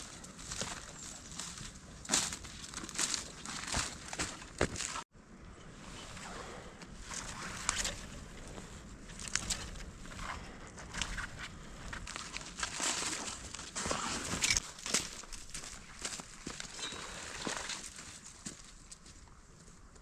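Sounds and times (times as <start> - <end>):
footsteps crunching in snow: 0.0 - 5.0, 7.0 - 19.8.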